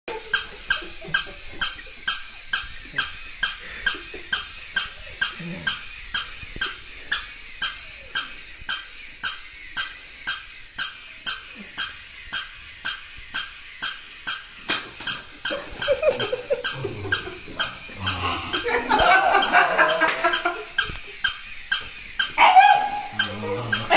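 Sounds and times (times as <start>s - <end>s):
toy mechanism squeaky clicks: 0.1s - 23.9s.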